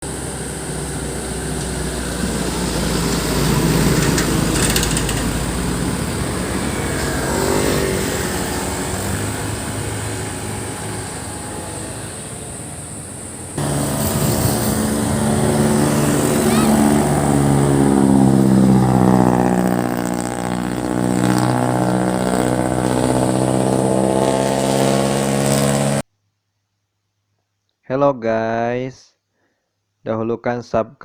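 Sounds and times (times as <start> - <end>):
loud exhausts revving: 0.0 - 26.0.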